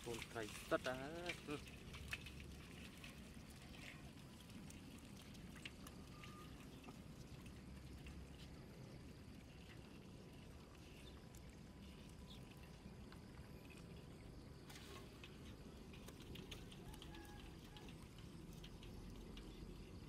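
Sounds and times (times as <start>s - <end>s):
net trap ticking and pattering in water: 0.0s - 20.0s.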